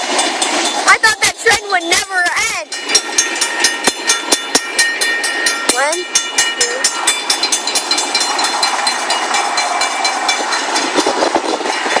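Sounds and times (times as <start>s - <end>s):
train wheels rumbling over rails: 0.0s - 12.0s
crossing bell ringing rapidly: 0.1s - 12.0s.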